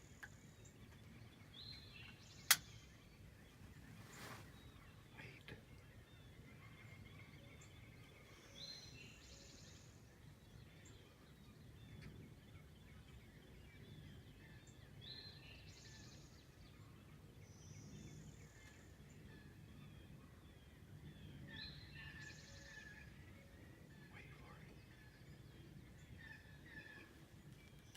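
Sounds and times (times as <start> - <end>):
small bird singing a trill: 0.0 - 23.1
faint woodland ambience: 0.0 - 27.9.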